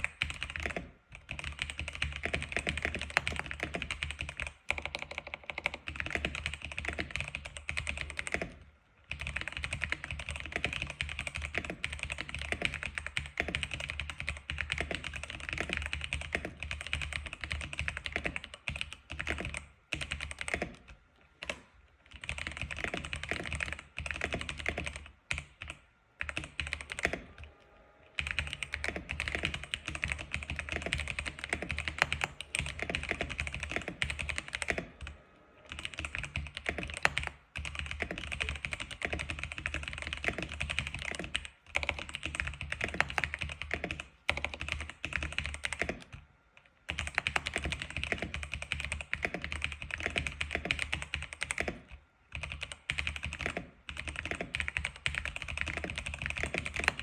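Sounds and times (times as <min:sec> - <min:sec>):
fast typing on keyboard: 0:00.0 - 0:27.5, 0:28.2 - 0:46.2, 0:46.8 - 0:57.0.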